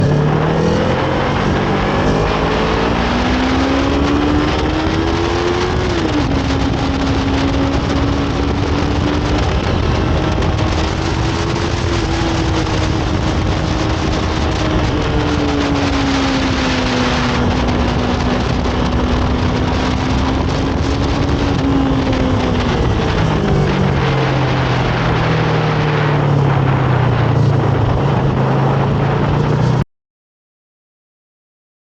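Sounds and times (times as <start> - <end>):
motorcycle engine revving: 0.0 - 29.8
wind and road noise: 0.0 - 29.9.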